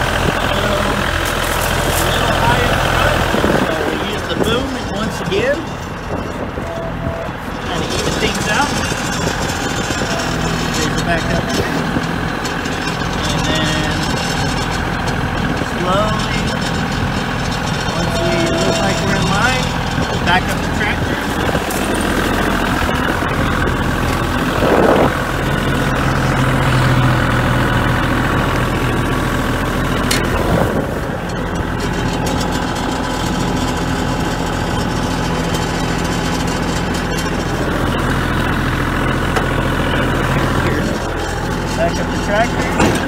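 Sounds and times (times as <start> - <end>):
diesel tractor engine idling: 0.0 - 43.0.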